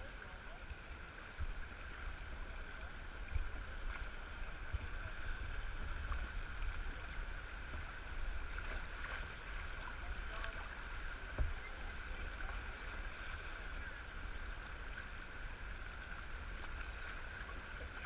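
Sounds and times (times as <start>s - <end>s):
river water splashing: 0.0s - 18.0s.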